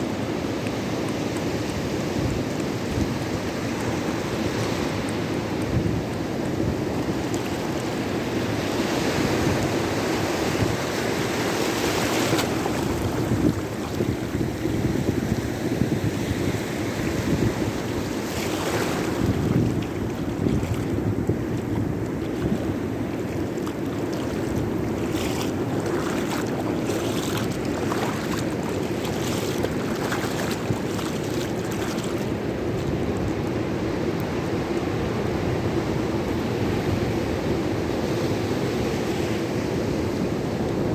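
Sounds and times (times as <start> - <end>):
wind buffeting microphone: 1.5 - 40.9
sea surf breaking: 3.4 - 37.1.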